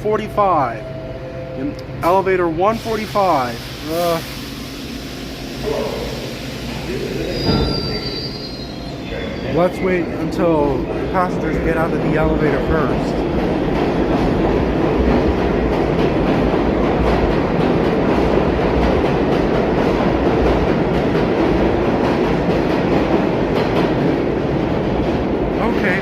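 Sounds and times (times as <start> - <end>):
subway train rumble: 0.0 - 26.0.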